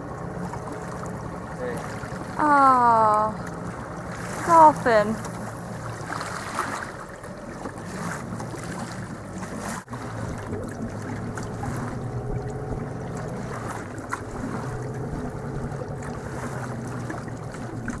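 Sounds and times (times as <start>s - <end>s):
boat motor running: 0.0s - 18.0s
water around hull: 0.0s - 18.0s.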